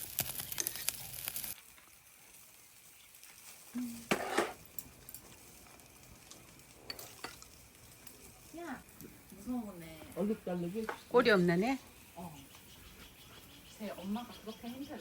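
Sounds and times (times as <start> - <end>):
meat sizzling on a grill: 0.0 - 15.0
wood fire crackling: 0.0 - 15.0.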